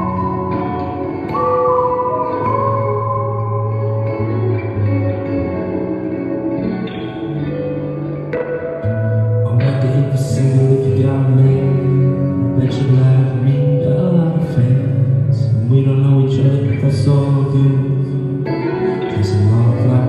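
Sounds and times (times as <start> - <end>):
guitar chords strummed: 0.0 - 20.0.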